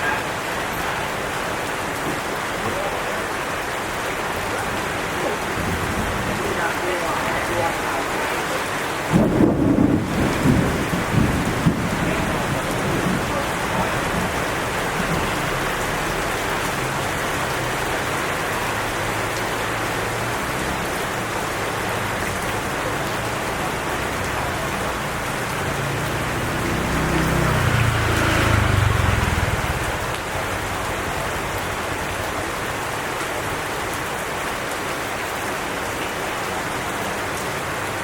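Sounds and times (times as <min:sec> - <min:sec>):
steady rain pouring: 0:00.0 - 0:38.0.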